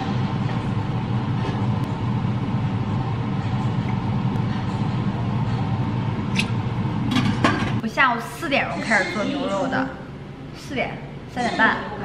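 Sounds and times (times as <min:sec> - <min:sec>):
range hood fan humming: 0:00.0 - 0:12.0.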